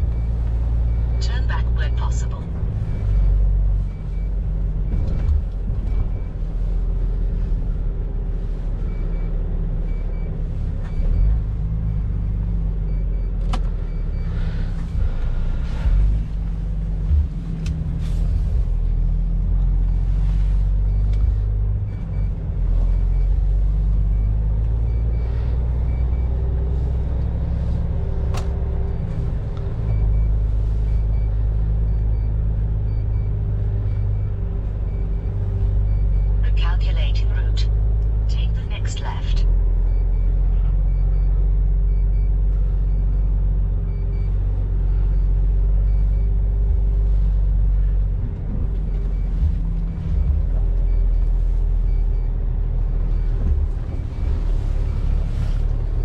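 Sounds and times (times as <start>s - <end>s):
truck engine drone: 0.0s - 56.0s.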